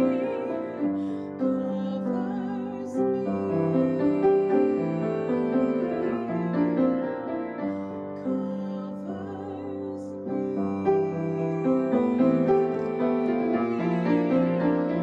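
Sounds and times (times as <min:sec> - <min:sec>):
piano playing a slow hymn: 0:00.0 - 0:15.0
woman singing: 0:00.0 - 0:15.0.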